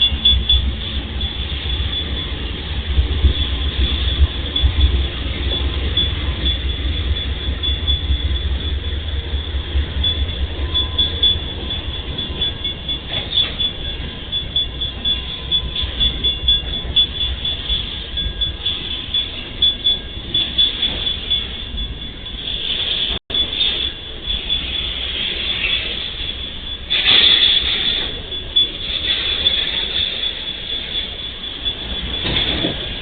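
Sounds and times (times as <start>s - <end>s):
high-pitched steady tone: 0.0s - 33.0s
train wheels rumbling: 0.0s - 33.0s.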